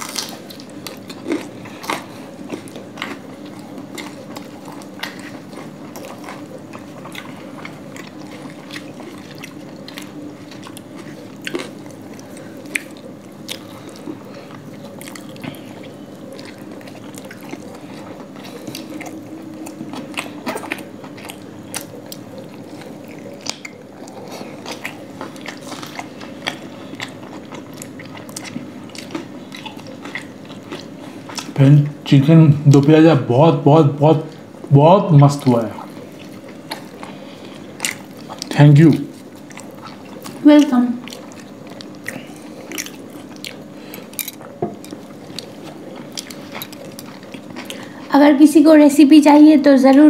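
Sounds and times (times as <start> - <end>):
chewing and mouth smacks: 0.0 - 32.1, 35.3 - 48.1
low background hum: 0.0 - 50.0.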